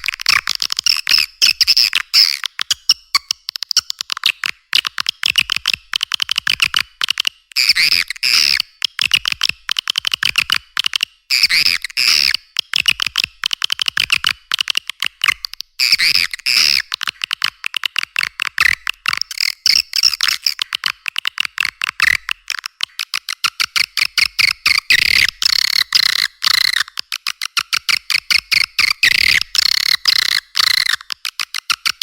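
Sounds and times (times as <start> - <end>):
rapid clicking: 0.0 - 32.0.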